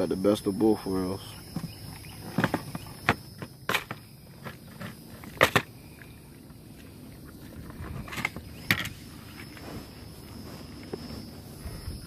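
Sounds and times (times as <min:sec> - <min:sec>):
faint steady background noise: 0:00.0 - 0:12.0.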